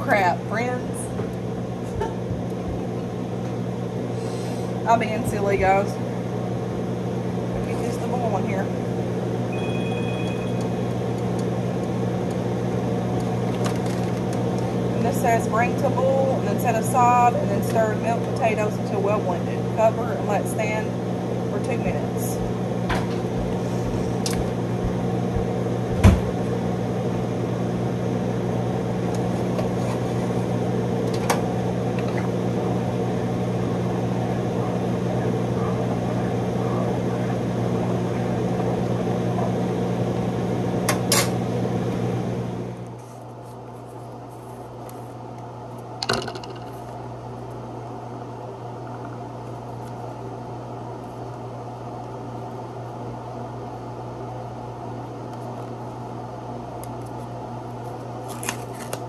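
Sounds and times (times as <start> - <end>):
kitchen appliance humming: 0.0 - 57.0
quieter steady hum: 0.0 - 59.0.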